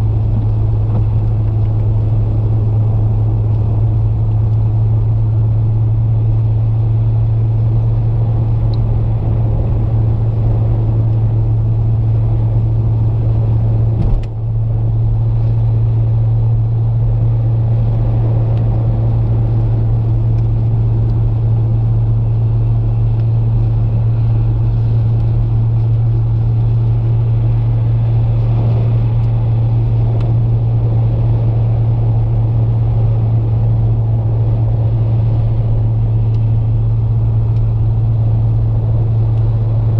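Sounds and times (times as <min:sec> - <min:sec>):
car engine and road noise drone: 0:00.0 - 0:39.9.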